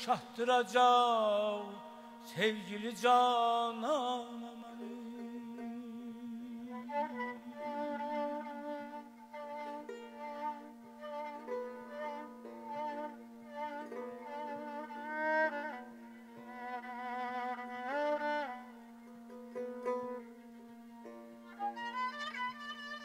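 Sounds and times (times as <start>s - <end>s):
bowed fiddle solo melody: 0.0s - 23.0s.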